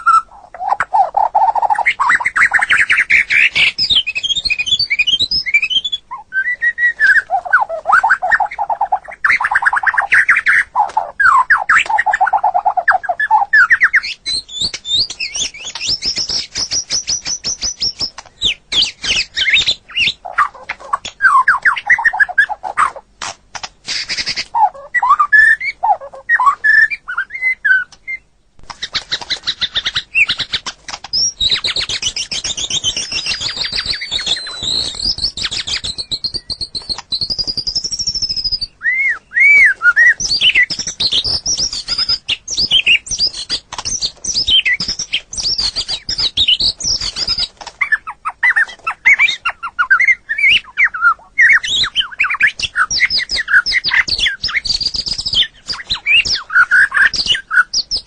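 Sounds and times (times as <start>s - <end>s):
bird whistled phrases and trills: 0.0s - 23.0s, 23.9s - 58.0s.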